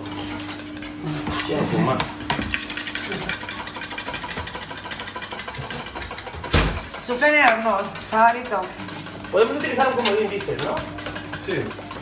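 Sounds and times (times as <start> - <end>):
whisk clinking in metal bowl: 2.2 - 12.0.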